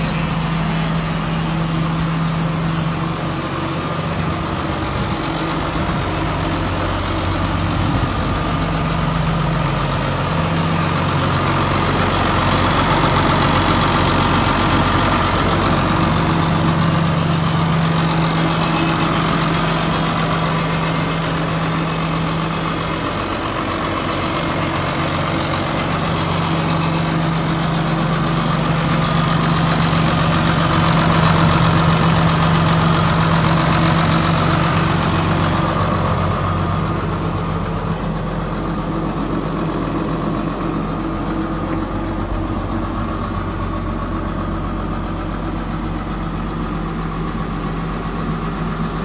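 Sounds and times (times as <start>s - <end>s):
tractor diesel engine idling: 0.0s - 49.0s.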